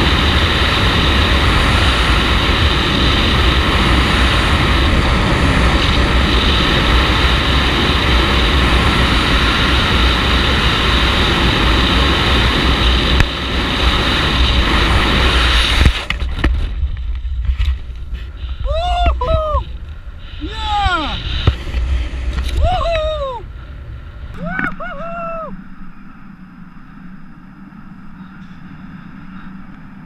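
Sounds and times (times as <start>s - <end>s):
strong wind on microphone: 0.0s - 30.0s.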